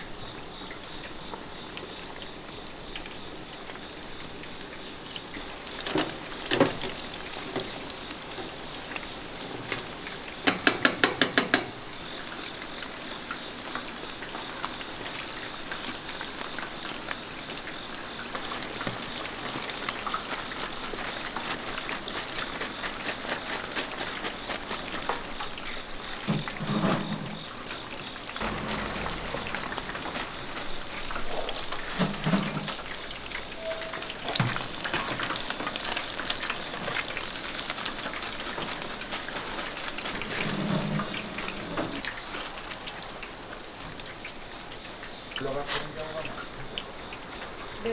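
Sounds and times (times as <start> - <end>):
food deep-frying in hot oil: 0.0 - 47.9.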